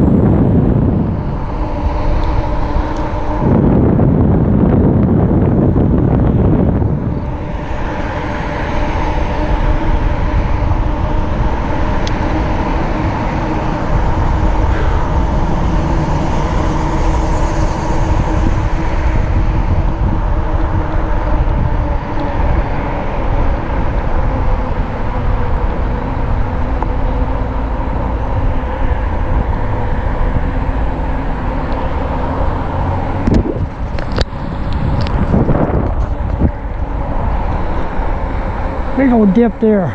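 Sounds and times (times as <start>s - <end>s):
electric bike motor hum: 0.0s - 39.9s
steady motor whine: 0.0s - 39.9s
wind rumble on microphone: 0.0s - 39.9s.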